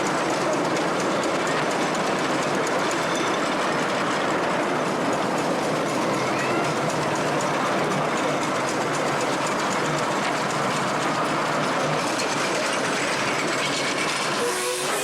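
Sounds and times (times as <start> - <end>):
steam train running: 0.0 - 15.0
wheels clicking on track: 0.0 - 15.0.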